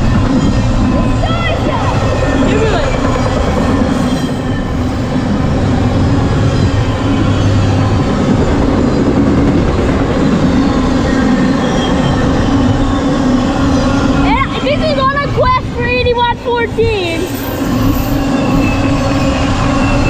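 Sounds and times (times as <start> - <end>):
freight train passing: 0.0 - 20.0.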